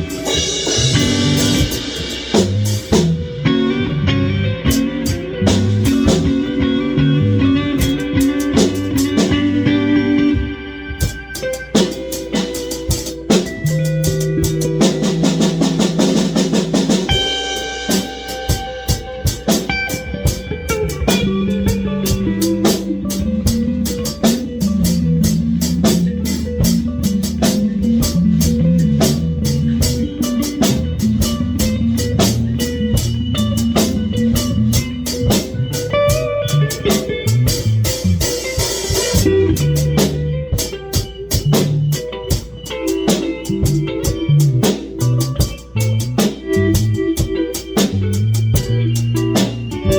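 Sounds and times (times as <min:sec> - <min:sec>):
bass guitar: 0:00.0 - 0:49.9
drum kit beat: 0:00.0 - 0:49.9
electric guitar: 0:00.0 - 0:49.9.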